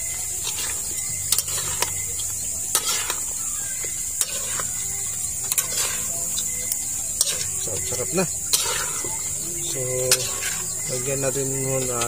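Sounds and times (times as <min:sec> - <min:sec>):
metal spatulas scraping a wok: 0:00.0 - 0:12.0
steady hiss: 0:00.0 - 0:12.0.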